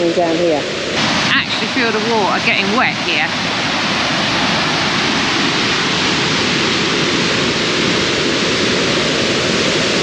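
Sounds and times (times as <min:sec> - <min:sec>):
waterfall roaring: 0:01.0 - 0:10.0.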